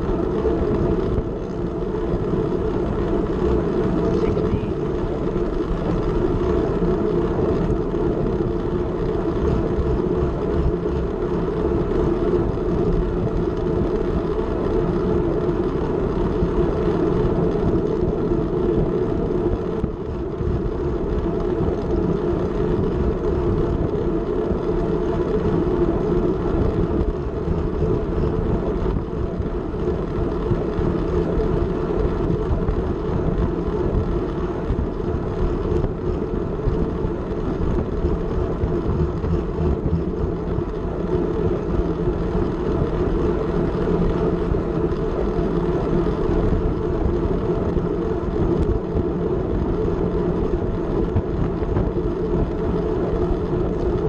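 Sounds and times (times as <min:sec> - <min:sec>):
rolling tyre noise: 0:00.0 - 0:54.0
wind rushing over microphone: 0:00.0 - 0:54.0.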